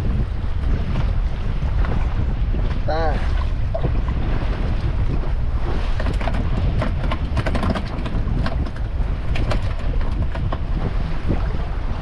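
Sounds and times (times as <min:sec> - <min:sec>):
low boat rumble: 0:00.0 - 0:12.0
water slapping against hull: 0:00.0 - 0:12.0
wind buffeting microphone: 0:00.0 - 0:12.0.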